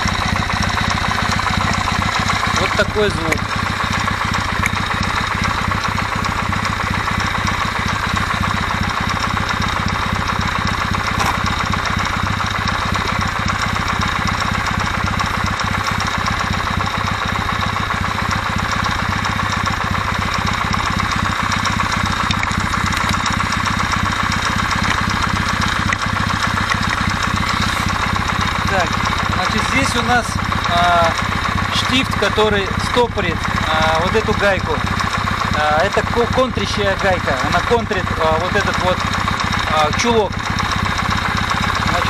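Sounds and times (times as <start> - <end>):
engine knocking: 0.0 - 42.0
motorcycle engine idling: 0.0 - 42.0.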